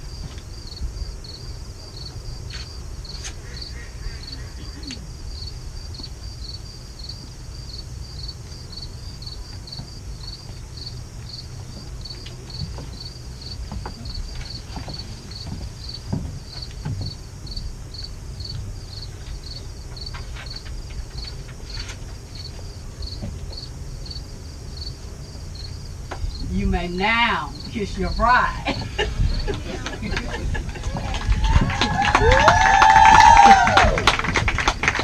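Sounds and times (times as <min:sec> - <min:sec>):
cricket chirping: 0:00.0 - 0:35.0
low background rumble: 0:00.0 - 0:35.0.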